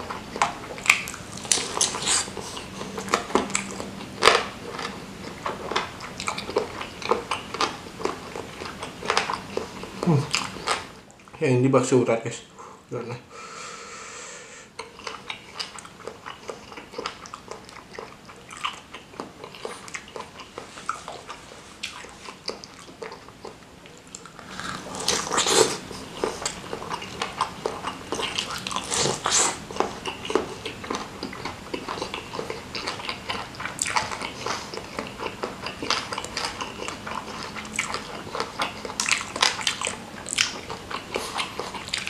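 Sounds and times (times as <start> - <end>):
person chewing with wet clicks: 0.0 - 11.4, 14.8 - 42.0.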